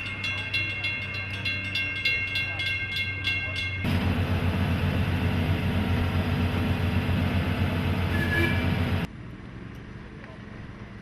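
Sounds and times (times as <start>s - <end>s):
miniature train rumbling: 0.0s - 9.1s.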